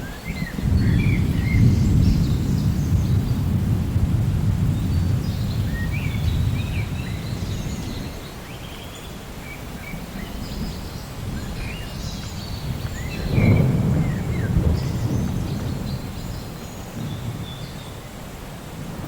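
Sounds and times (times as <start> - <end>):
birds chirping: 0.0 - 3.6, 4.6 - 18.4
thunder rumble: 0.0 - 8.2, 10.2 - 19.0
rain hiss: 0.0 - 19.0.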